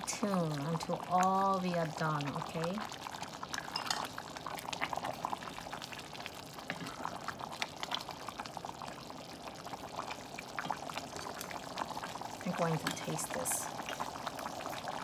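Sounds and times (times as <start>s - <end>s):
pot simmering with bubbling pops: 0.0s - 15.0s.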